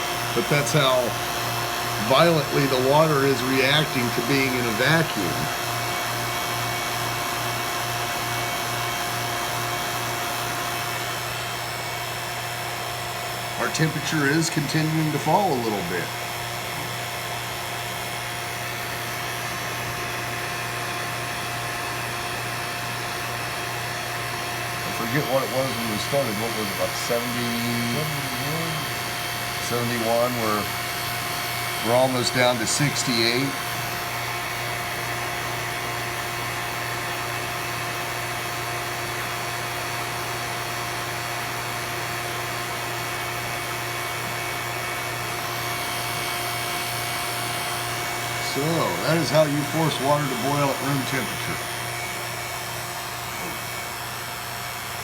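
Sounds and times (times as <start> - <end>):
vacuum pump humming: 0.0 - 55.0.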